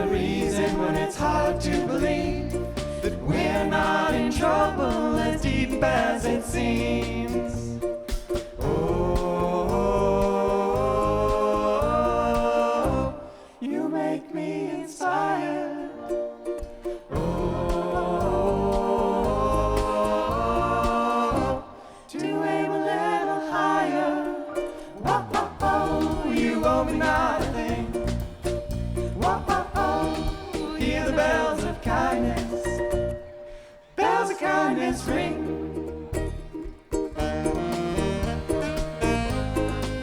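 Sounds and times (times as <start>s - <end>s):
instrumental accompaniment: 0.0s - 13.3s, 16.2s - 21.8s, 24.5s - 33.6s, 35.4s - 40.0s
voices singing in harmony: 0.0s - 40.0s.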